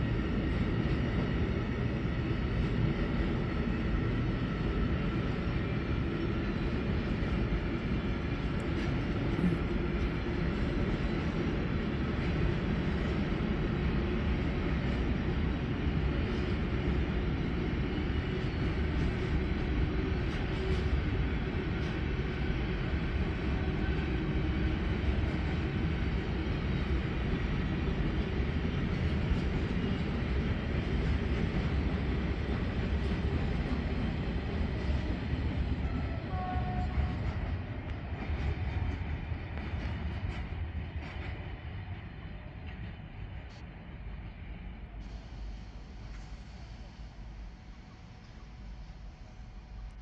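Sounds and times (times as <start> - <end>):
freight train rumbling on rails: 0.0 - 50.0.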